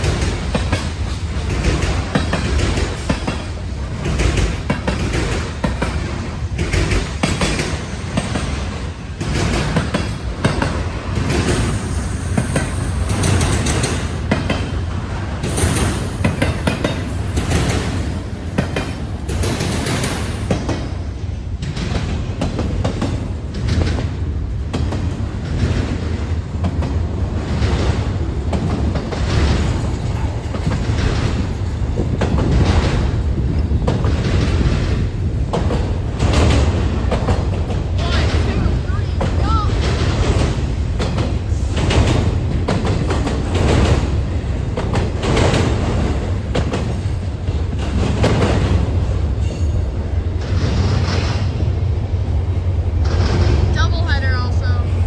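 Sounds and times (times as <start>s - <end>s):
wheels clicking on rail joints: 0.0s - 54.5s
train wheels rumbling: 0.0s - 55.0s.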